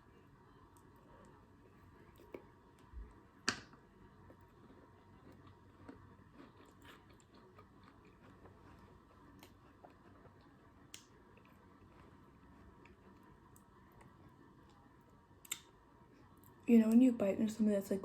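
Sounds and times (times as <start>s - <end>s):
quiet chewing: 0.2s - 17.0s.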